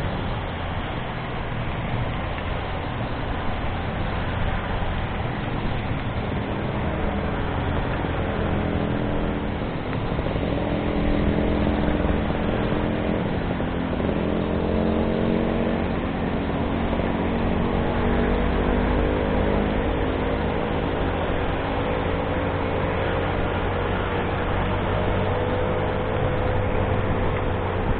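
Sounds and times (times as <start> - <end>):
wind and road noise: 0.0 - 27.9
motorcycle engine accelerating: 1.8 - 27.9.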